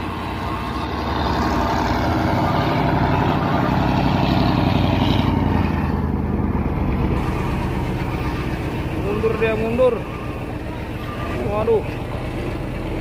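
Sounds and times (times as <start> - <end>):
traffic engines rumbling: 0.0 - 13.0
truck diesel engine passing: 0.0 - 13.0.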